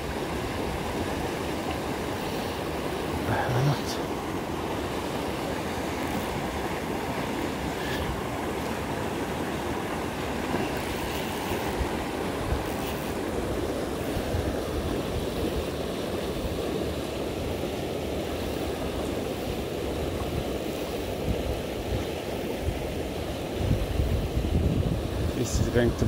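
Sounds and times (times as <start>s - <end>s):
water rushing into river: 0.0s - 26.0s.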